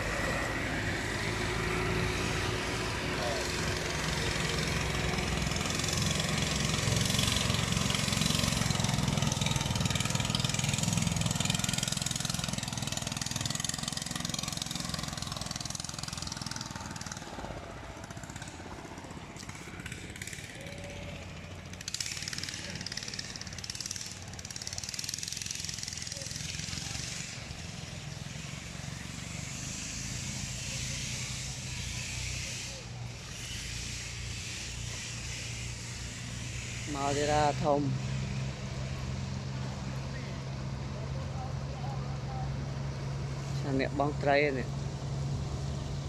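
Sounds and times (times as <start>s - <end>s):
boat engine running: 0.0s - 46.0s.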